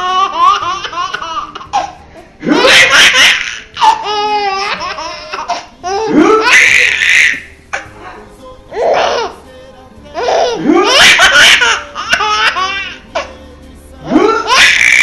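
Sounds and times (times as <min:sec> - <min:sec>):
baby laughing: 0:00.0 - 0:08.0, 0:08.7 - 0:09.4, 0:10.2 - 0:13.4, 0:14.1 - 0:15.0.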